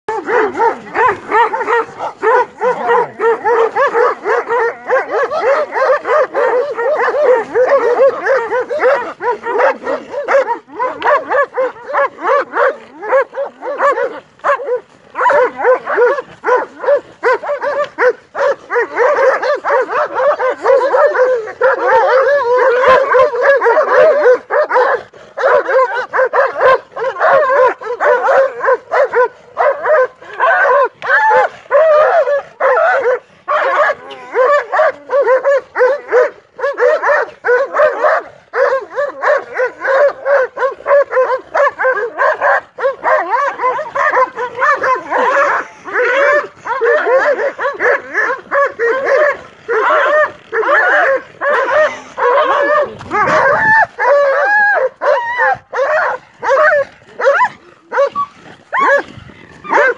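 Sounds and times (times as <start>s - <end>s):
dogs barking and yipping: 0.1s - 59.9s.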